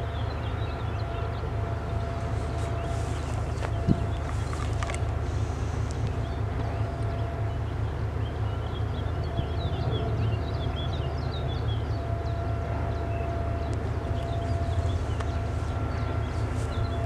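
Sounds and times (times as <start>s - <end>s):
diesel engines rumbling: 0.0s - 17.0s
thin steady whine: 0.0s - 17.0s.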